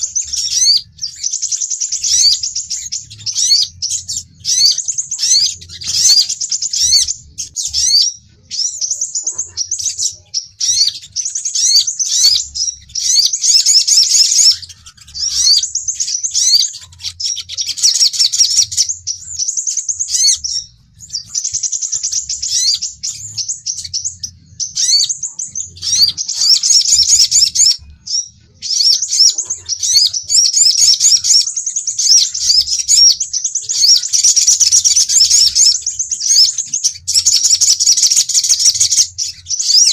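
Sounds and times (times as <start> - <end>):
high bird chirps and whistles: 0.0 - 39.9.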